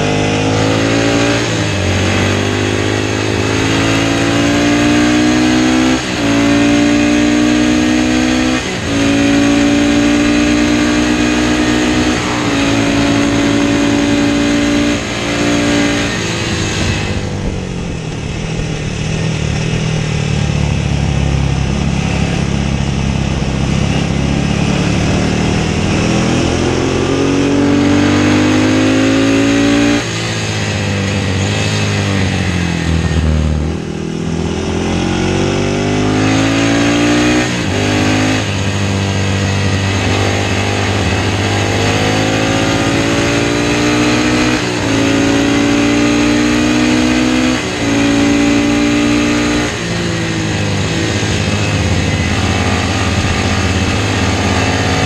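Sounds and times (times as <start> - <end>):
racing motorcycle engine revving: 0.0 - 55.0.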